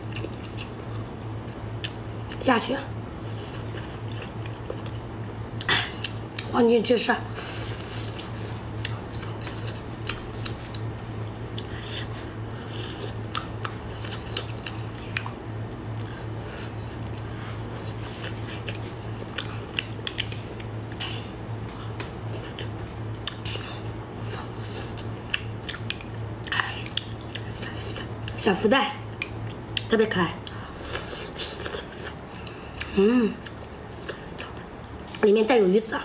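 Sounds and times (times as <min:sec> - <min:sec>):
chewing and mouth sounds: 0:00.1 - 0:01.1, 0:01.8 - 0:02.5, 0:03.2 - 0:06.6, 0:07.3 - 0:28.4, 0:29.1 - 0:35.2.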